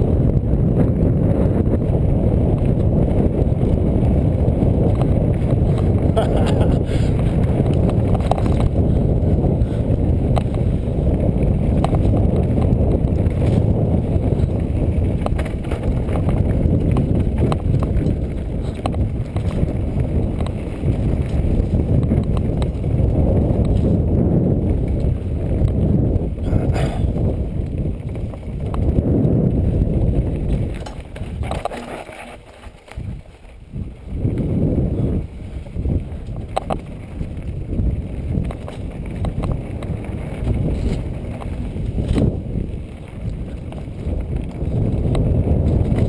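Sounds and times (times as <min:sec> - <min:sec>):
bike rattling over rocks: 0:00.0 - 0:46.0
bike tyres rumbling on dirt: 0:00.0 - 0:46.0
wind on microphone: 0:00.0 - 0:46.0.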